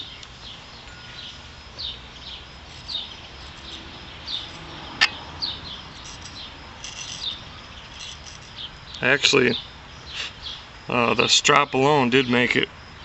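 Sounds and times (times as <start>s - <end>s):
bird chirping: 0.0s - 11.2s.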